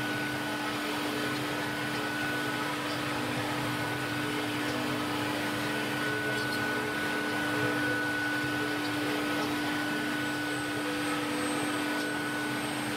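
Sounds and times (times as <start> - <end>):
wood router spindle whine: 0.0 - 12.9.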